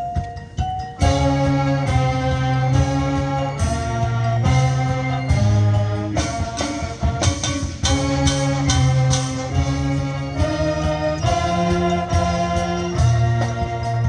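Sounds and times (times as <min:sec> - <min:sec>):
percussion hits: 0:00.0 - 0:14.0
brass sustained chords: 0:01.0 - 0:14.0.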